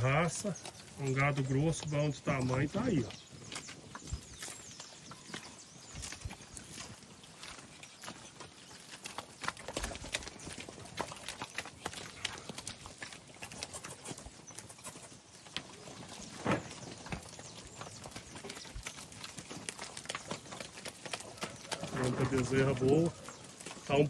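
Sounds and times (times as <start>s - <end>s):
calf hooves clopping: 0.0s - 24.0s.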